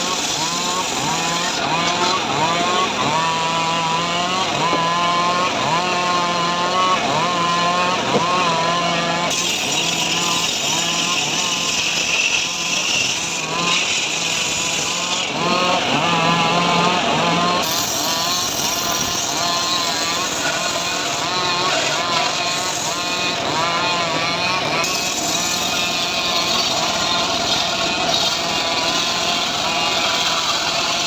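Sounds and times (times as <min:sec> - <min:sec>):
saw hissing through wood: 0:00.0 - 0:04.9, 0:07.8 - 0:16.3, 0:16.9 - 0:31.0
small engine running in cycles: 0:00.0 - 0:31.0.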